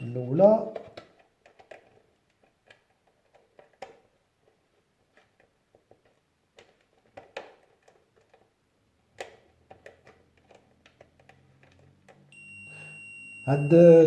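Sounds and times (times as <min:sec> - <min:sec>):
small parts clicking and tapping: 0:00.7 - 0:12.4.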